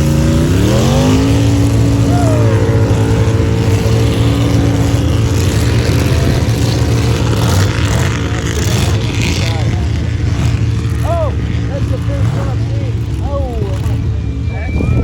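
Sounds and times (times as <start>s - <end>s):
truck engine at high revs: 0.0s - 15.0s.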